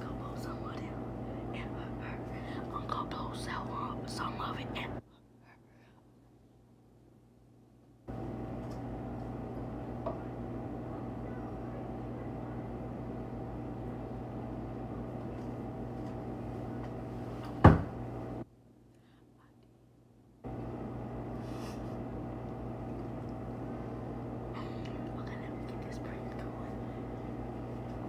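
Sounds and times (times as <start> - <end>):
low buzzing hum: 0.0 - 19.4, 20.1 - 28.0.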